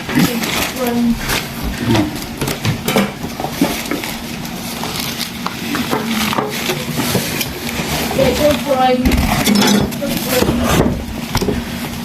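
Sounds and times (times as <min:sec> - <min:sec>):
items clicking and clattering: 0:00.0 - 0:12.0.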